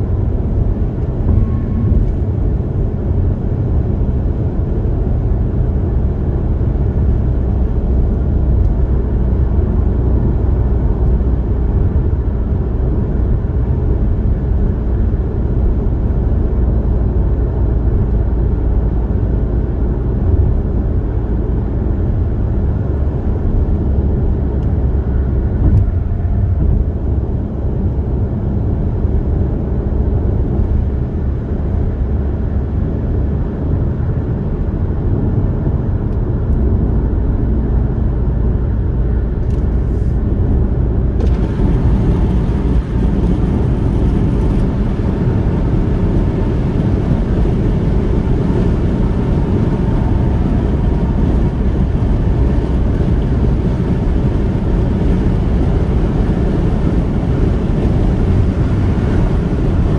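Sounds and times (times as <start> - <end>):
car road and tyre noise: 0.0 - 59.9.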